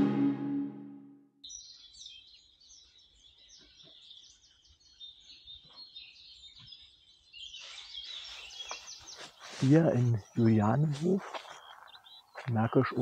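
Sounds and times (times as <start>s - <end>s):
birds chirping: 1.5s - 13.0s.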